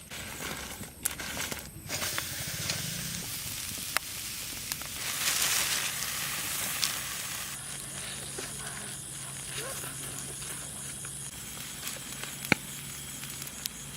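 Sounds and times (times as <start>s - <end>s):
food sizzling in hot oil: 0.0s - 13.9s
oil popping: 0.4s - 13.9s.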